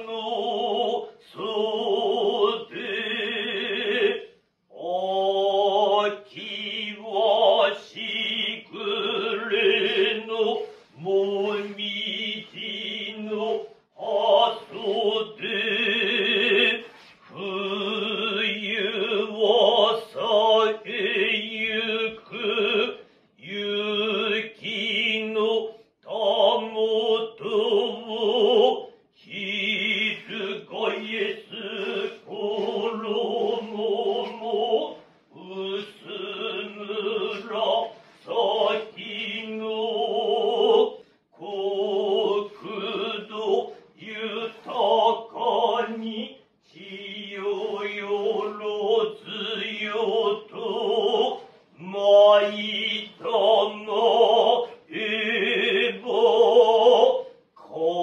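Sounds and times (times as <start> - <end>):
man chanting slowly: 0.0 - 58.0.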